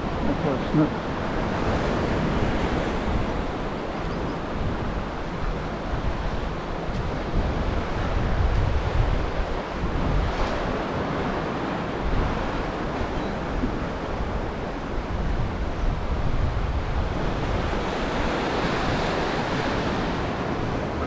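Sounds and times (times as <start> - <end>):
choppy surf: 0.0 - 21.0
wind buffeting microphone: 0.0 - 21.0.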